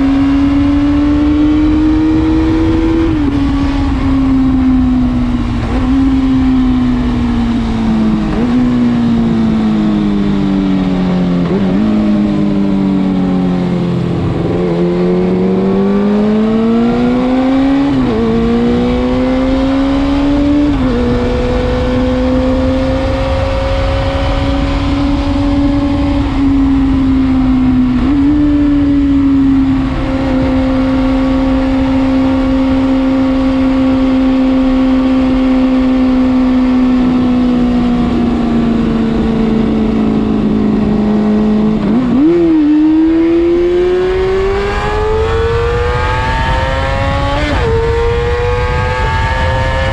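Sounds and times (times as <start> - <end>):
motorcycle engine while riding: 0.0 - 49.9.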